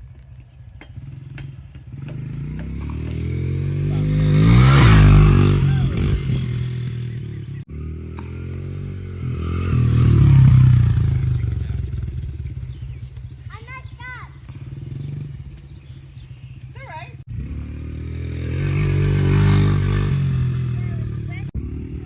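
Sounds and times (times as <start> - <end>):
dirt bike engine passing: 0.0 - 22.0.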